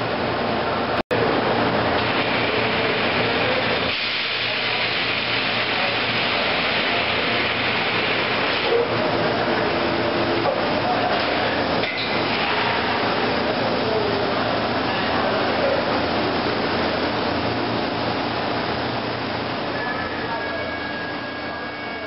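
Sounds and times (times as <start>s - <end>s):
thermoforming machine hiss and hum: 0.0s - 22.0s.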